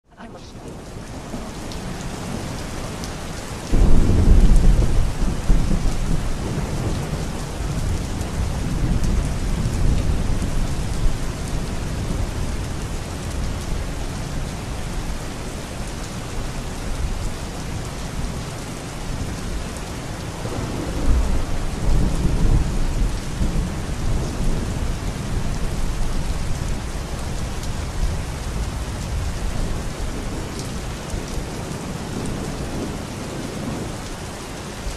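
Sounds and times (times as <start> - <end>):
thunder rumbling: 0.1 - 34.3
rain hiss: 0.2 - 34.9.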